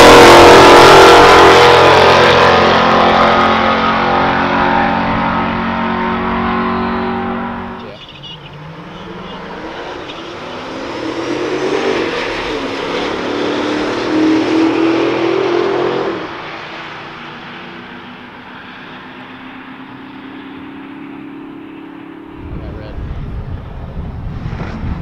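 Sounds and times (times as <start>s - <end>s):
car engine revving through gears: 0.0s - 22.6s.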